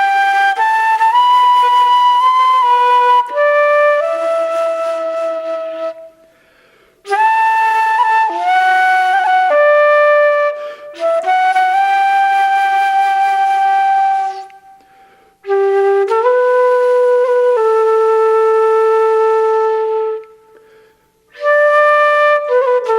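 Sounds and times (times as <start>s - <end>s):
solo flute melody: 0.0s - 22.9s.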